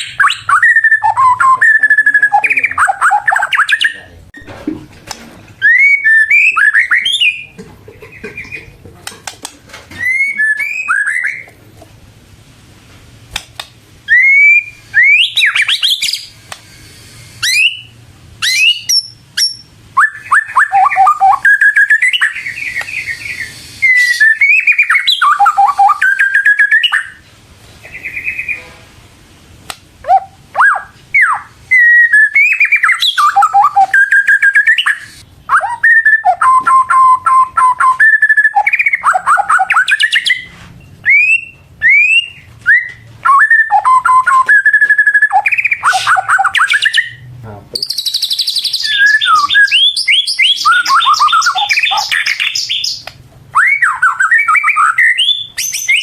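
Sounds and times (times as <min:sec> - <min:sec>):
songbird singing: 0:00.0 - 0:04.2, 0:05.6 - 0:08.8, 0:09.9 - 0:11.6, 0:14.1 - 0:16.4, 0:17.4 - 0:27.2, 0:30.0 - 0:56.0.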